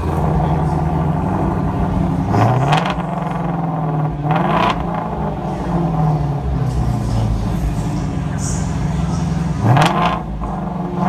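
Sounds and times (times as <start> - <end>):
car engine idling: 0.0 - 11.0
engine revving: 0.0 - 11.0.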